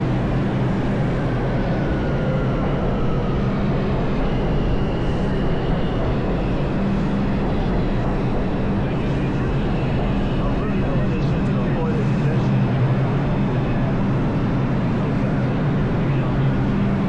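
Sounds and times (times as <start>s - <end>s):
faint whining tones: 0.0s - 17.0s
subway train rumbling: 0.0s - 17.0s.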